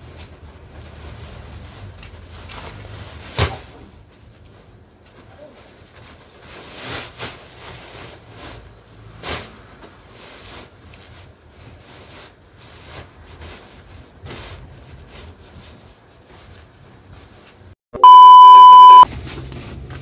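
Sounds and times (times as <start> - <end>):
plastic sacks rubbing and scraping: 0.0 - 4.1, 4.9 - 17.7.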